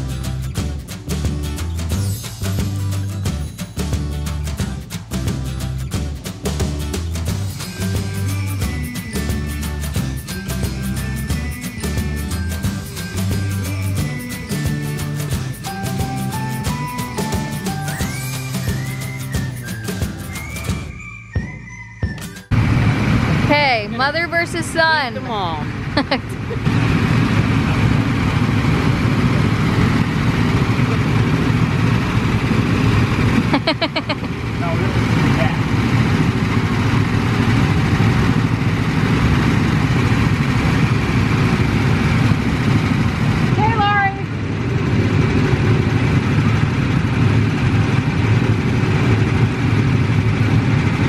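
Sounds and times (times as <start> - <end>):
go-kart engines droning: 0.0 - 51.0.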